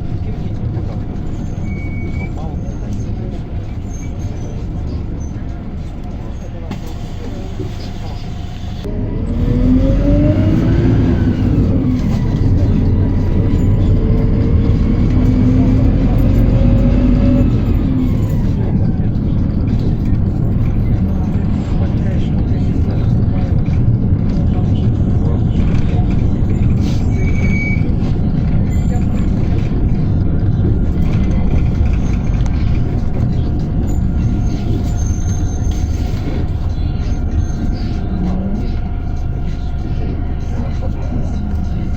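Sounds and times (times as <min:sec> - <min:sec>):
bus engine rumble with rising whine: 0:00.0 - 0:41.9.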